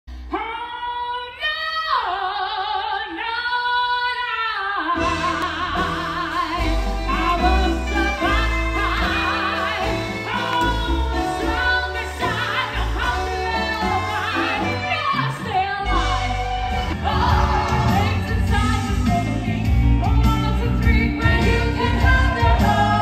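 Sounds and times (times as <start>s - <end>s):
woman singing with vibrato: 0.3s - 23.0s.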